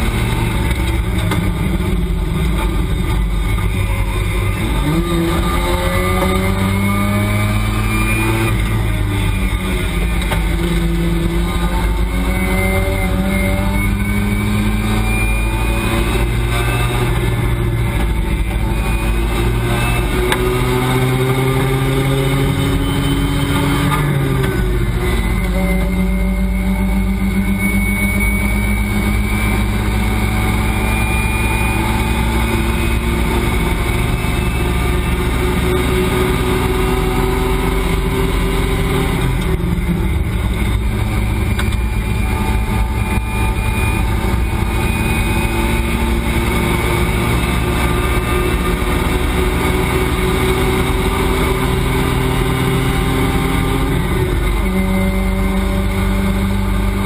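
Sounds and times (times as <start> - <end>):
race car engine accelerating: 0.0 - 57.0
wind and road noise: 0.0 - 57.0.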